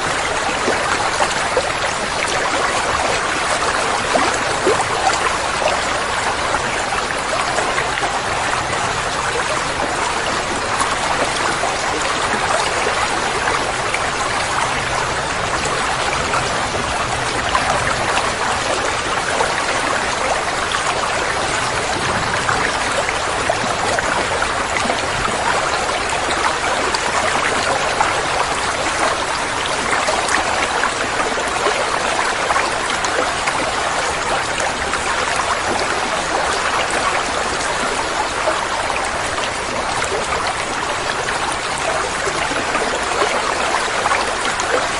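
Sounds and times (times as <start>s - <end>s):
pond water trickling: 0.0s - 44.9s.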